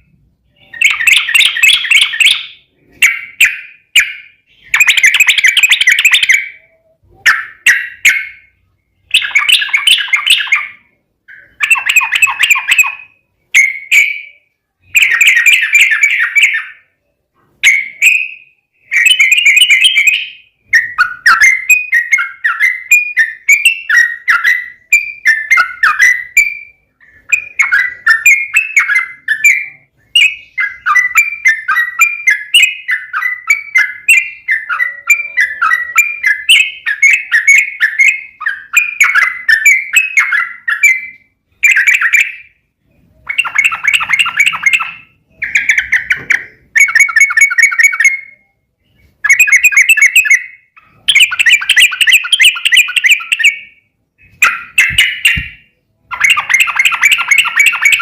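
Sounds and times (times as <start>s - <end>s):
bird warbling song: 0.0s - 58.0s.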